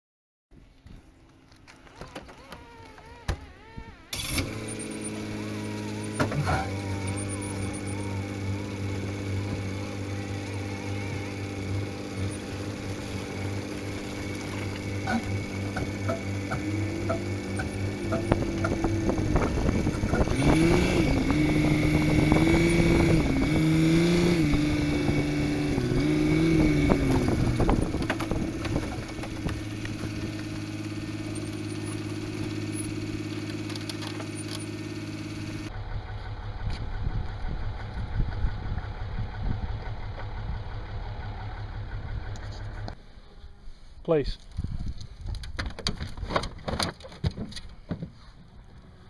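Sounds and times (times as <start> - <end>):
vehicle engine running: 0.8 - 43.9.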